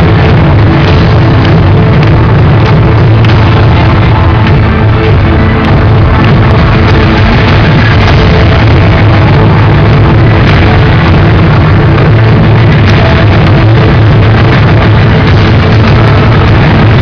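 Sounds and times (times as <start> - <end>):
live pop concert music: 0.0 - 17.0.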